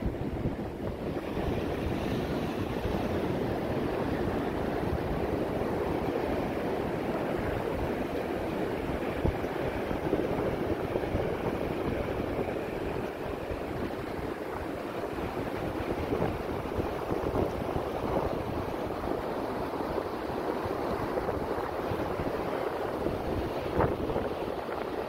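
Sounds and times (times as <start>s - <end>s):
sea surf on beach: 0.0s - 25.0s
wind on microphone: 0.0s - 25.0s.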